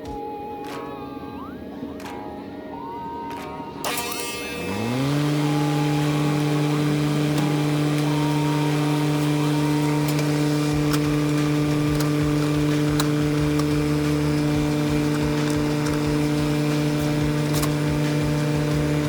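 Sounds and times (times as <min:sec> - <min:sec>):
air conditioner unit humming: 0:02.5 - 0:19.0.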